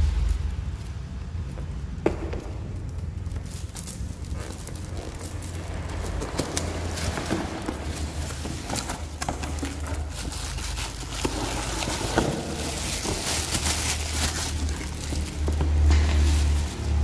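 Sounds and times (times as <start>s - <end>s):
steady low hum: 0.0s - 16.9s
cardboard and plastic rustling: 0.0s - 17.0s.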